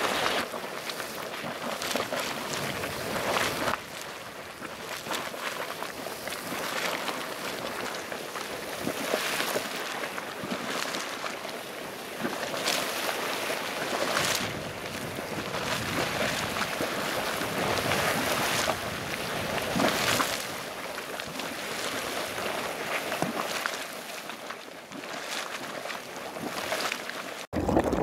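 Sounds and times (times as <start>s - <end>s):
geyser water splashing and surging: 0.0s - 28.0s.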